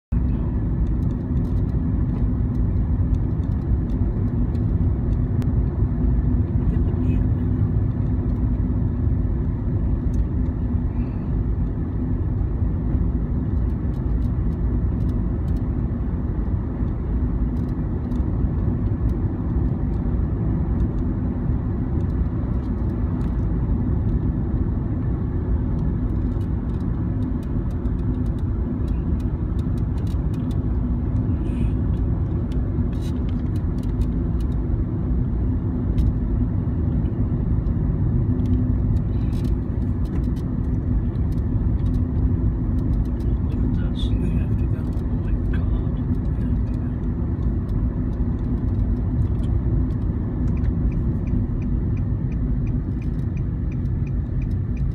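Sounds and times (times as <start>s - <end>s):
car road noise inside cabin: 0.1s - 54.9s
steady low hum: 0.1s - 54.9s.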